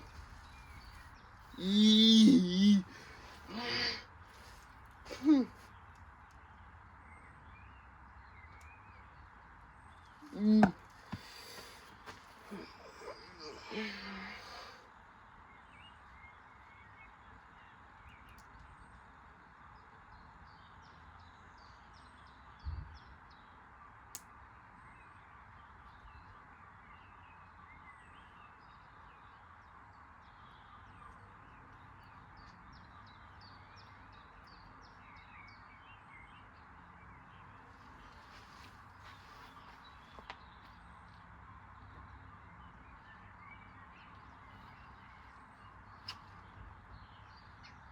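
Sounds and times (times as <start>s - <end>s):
small birds chirping: 0.0s - 19.2s, 24.4s - 47.9s.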